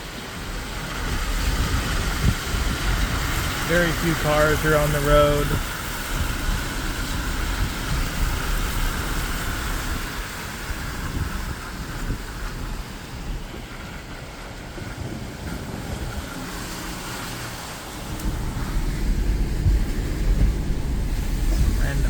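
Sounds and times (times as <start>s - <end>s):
tyres hissing on wet road: 0.0s - 22.0s
wind: 0.0s - 22.0s
low uneven rumble: 0.5s - 22.0s.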